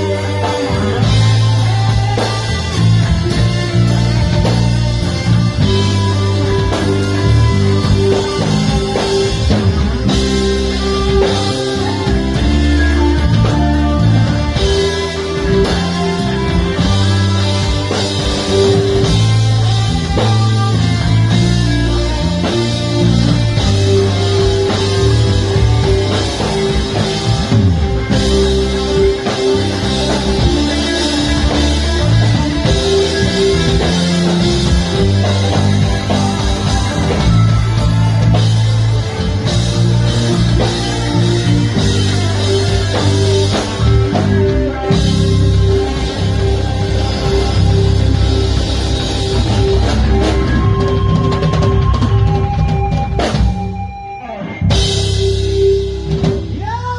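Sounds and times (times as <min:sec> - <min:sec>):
instrumental rock music: 0:00.0 - 0:56.9.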